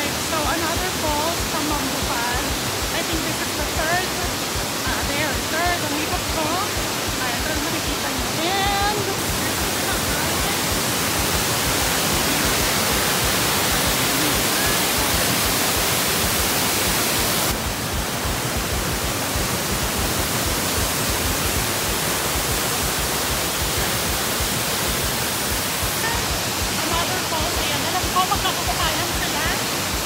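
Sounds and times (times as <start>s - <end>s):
waterfall rushing over boulders: 0.0s - 30.0s.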